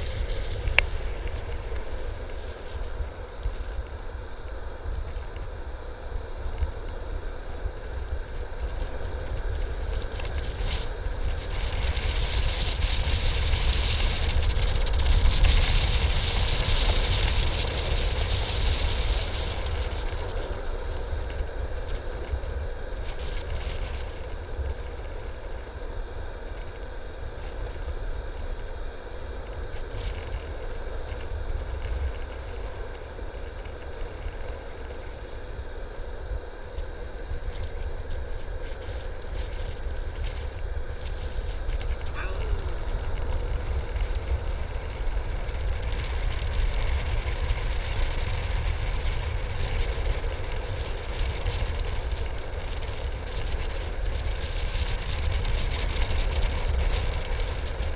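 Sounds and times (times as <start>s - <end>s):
skateboard wheels rolling on asphalt: 0.0s - 57.9s
wind buffeting microphone: 0.0s - 57.9s.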